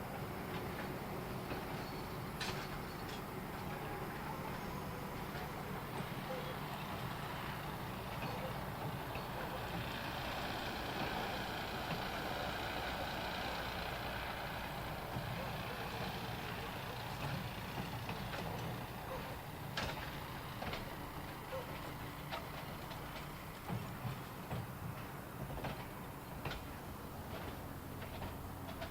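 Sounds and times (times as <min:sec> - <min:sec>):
train clicks and clanks: 0:00.0 - 0:28.9
train rumbling past: 0:00.0 - 0:28.9.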